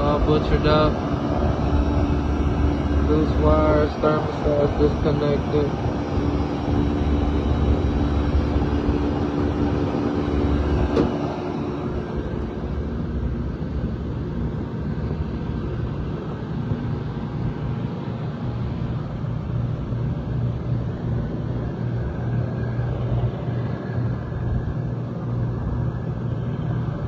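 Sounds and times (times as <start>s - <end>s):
hvac equipment humming: 0.0s - 27.0s.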